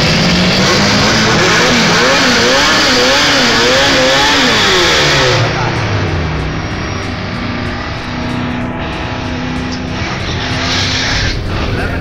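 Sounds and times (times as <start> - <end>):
drag-race cars accelerating: 0.0 - 12.0.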